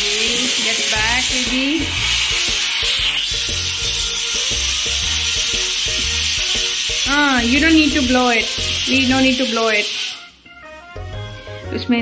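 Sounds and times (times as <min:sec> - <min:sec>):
pressure cooker whistle hissing: 0:00.0 - 0:11.8.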